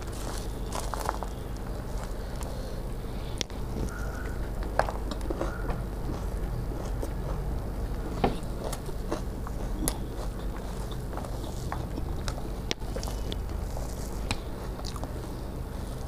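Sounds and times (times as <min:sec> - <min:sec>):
chewing with crunches: 0:00.0 - 0:16.0
steady low hum: 0:00.0 - 0:16.0.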